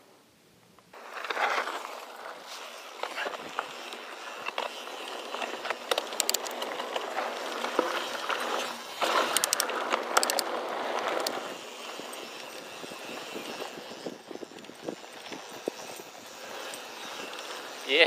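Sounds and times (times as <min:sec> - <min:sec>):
bike rattles and clicks: 0:01.0 - 0:18.0.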